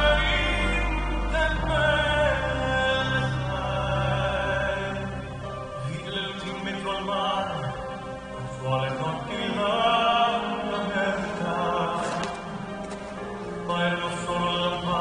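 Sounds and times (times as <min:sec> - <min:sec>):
slow sung vocal with accompaniment: 0:00.0 - 0:15.0.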